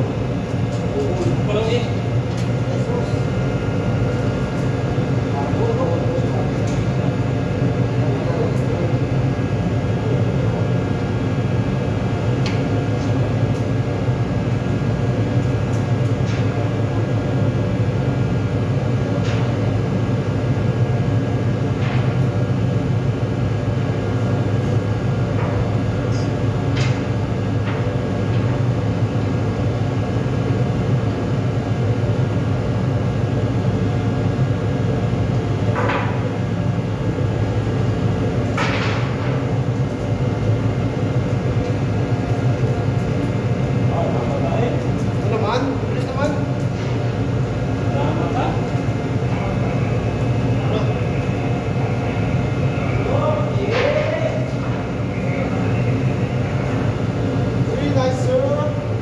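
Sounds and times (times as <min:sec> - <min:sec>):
ship machinery drone: 0:00.0 - 0:59.0.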